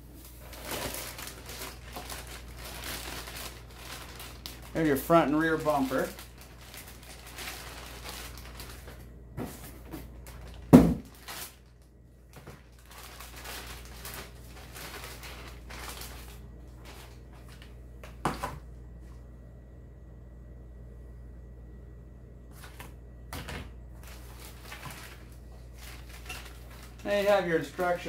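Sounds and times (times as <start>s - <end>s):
plastic bags rustling and crinkling: 0.0s - 18.4s, 23.9s - 28.0s.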